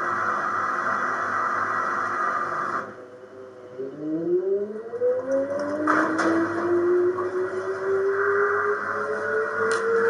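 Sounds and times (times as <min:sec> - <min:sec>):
washing machine spinning up: 0:00.0 - 0:09.0.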